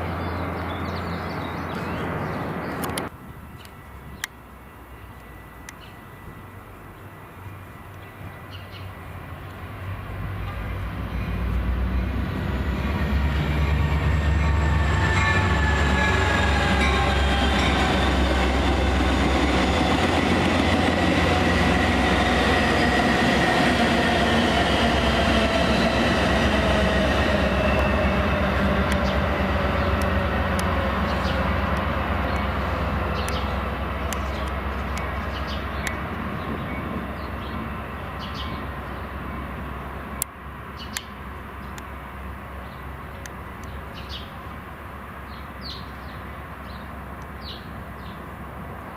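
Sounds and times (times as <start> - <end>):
train rumbling past: 0.0 - 48.9.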